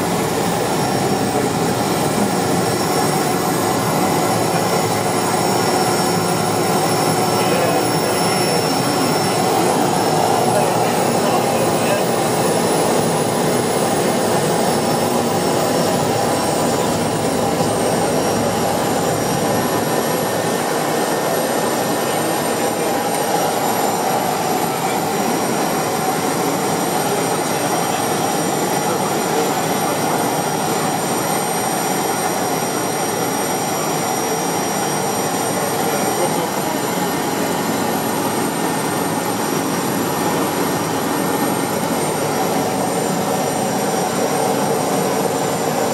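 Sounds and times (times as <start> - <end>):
high turbine whine: 0.0 - 45.9
propeller engine drone: 0.0 - 45.9.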